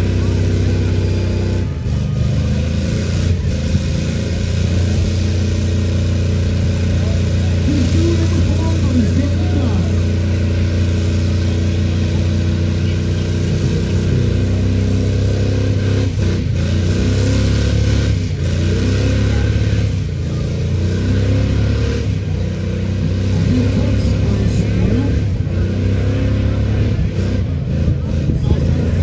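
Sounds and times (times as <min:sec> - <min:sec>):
pickup engine at high revs: 0:00.0 - 0:29.0
tire spinning: 0:00.0 - 0:29.0.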